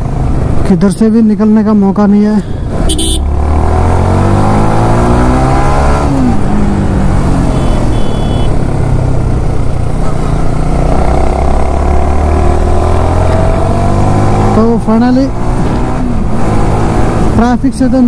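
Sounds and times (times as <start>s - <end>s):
motorcycle engine accelerating: 2.7s - 17.5s.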